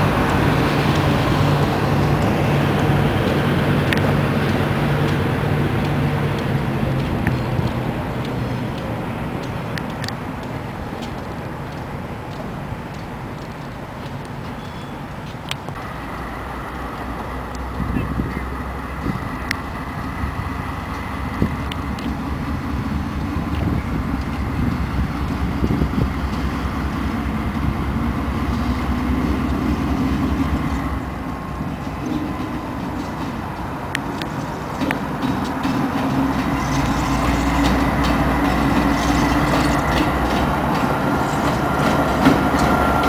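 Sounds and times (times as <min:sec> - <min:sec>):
locomotive engine rumble: 0:00.0 - 0:43.0.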